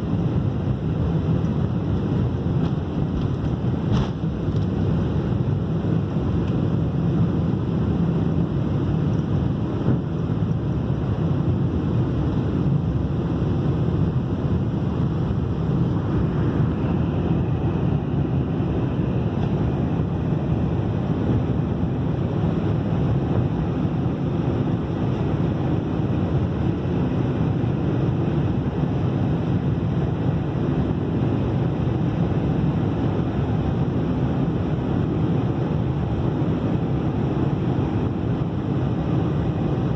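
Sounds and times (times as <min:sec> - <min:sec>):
jet engines roaring in cabin: 0:00.0 - 0:39.9.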